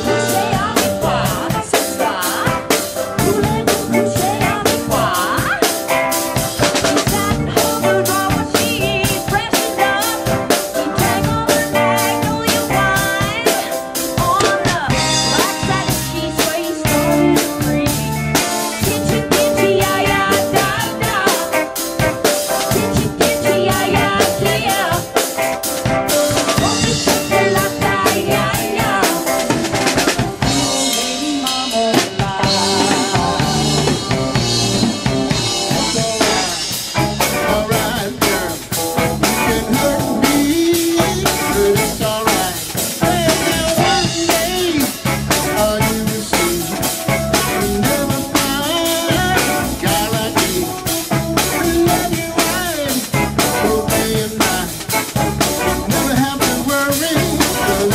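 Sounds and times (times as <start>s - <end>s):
band playing: 0.0s - 57.9s
drum kit beat: 0.0s - 57.9s.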